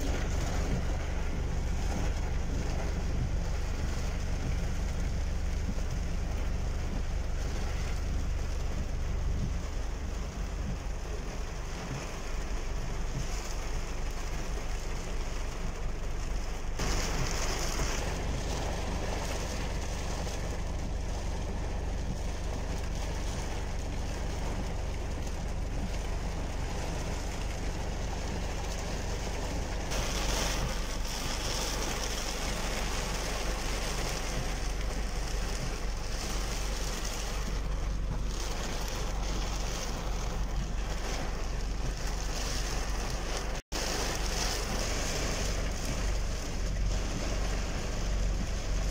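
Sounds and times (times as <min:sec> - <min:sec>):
heavy rain on car: 0:00.0 - 0:48.9
road and engine rumble: 0:00.0 - 0:48.9.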